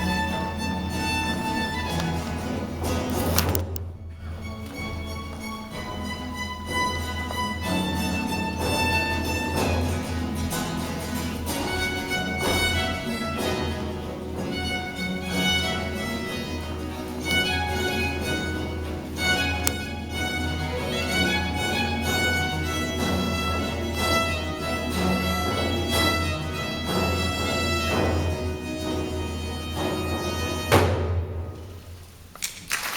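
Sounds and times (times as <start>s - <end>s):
baroque ensemble with violins: 0.0s - 31.6s.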